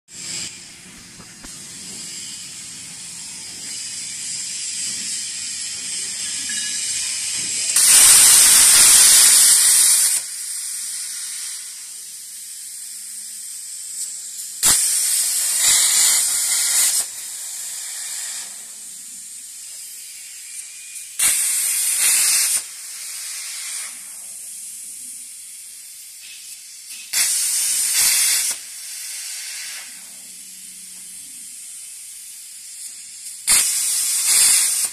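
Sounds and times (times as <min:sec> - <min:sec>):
plasma cutter arc hissing: 0:00.1 - 0:34.9.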